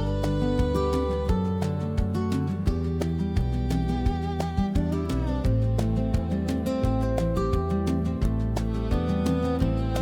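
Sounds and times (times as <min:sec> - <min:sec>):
guitar-led music with beat: 0:00.0 - 0:10.0.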